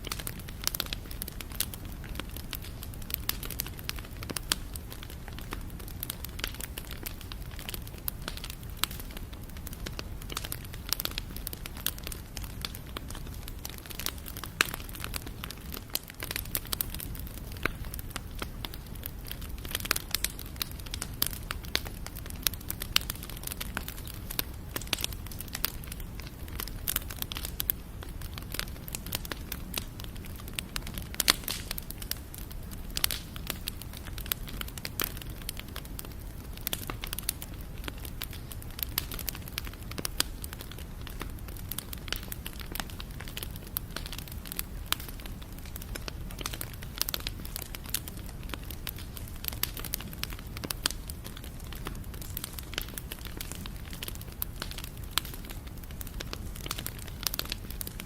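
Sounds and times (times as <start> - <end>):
burning wood crackling and popping: 0.0 - 58.0
flames rumbling: 0.0 - 58.0.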